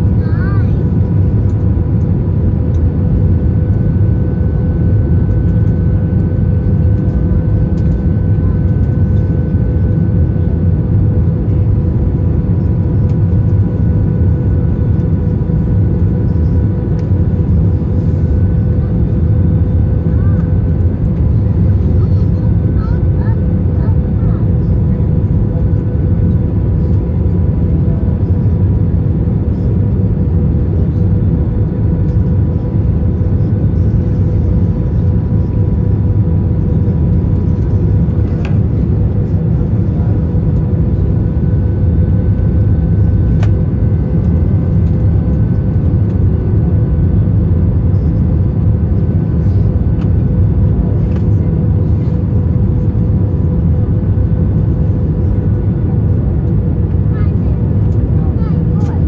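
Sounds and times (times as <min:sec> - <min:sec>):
aircraft cabin roar: 0:00.0 - 0:59.0.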